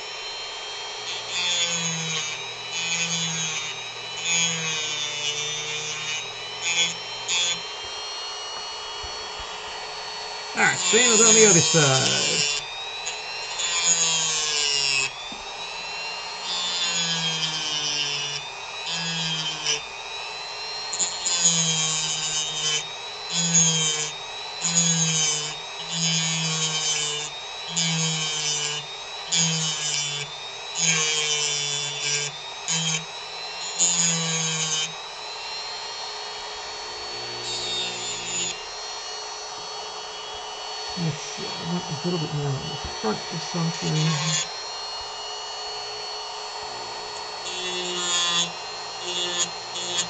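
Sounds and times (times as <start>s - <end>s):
rotary tool carving wood: 0.0s - 50.0s.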